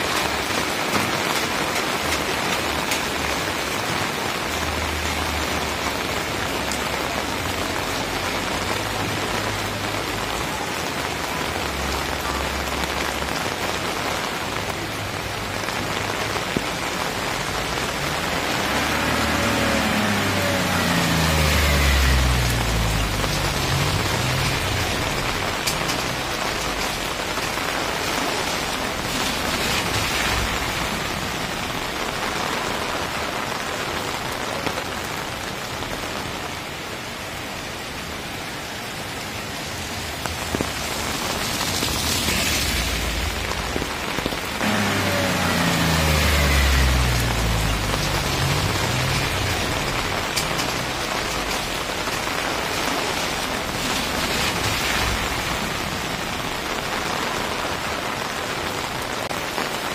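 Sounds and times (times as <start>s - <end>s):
light rain on wet street: 0.0s - 59.9s
vehicle passing on wet road: 0.0s - 59.9s.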